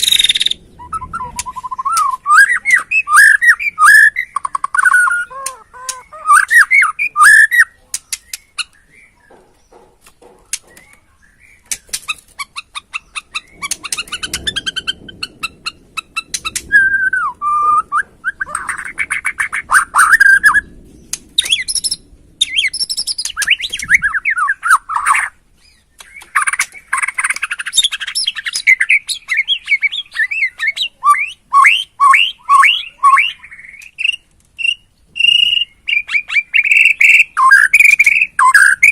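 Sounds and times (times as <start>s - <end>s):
bird singing whistled phrases: 0.0s - 9.4s, 16.2s - 20.7s, 21.4s - 38.9s.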